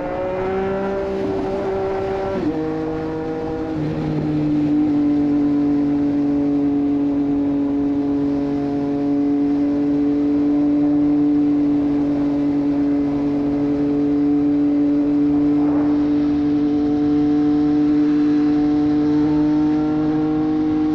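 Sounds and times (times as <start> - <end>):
motorcycle engine at steady revs: 0.0 - 20.9.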